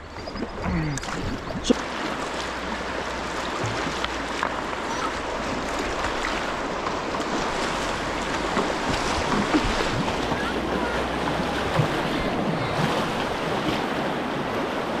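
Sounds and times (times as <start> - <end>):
paddle splashes: 0.1 - 15.0
whitewater rushing: 1.0 - 15.0.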